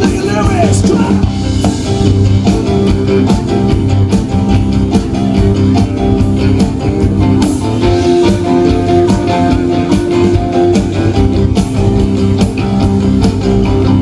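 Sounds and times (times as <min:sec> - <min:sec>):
drums keeping steady beat: 0:00.0 - 0:14.0
live rock band playing: 0:00.0 - 0:14.0.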